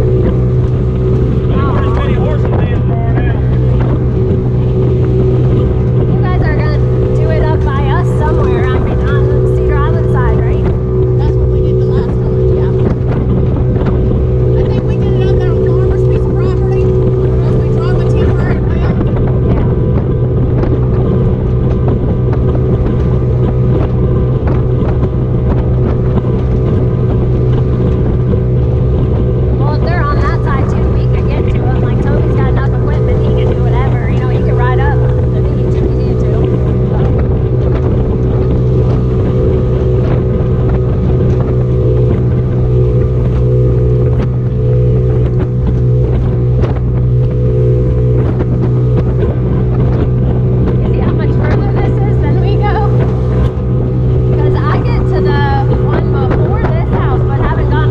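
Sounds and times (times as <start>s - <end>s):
motorboat engine running: 0.0s - 57.9s
rushing water: 0.0s - 57.9s
wind on microphone: 0.0s - 57.9s.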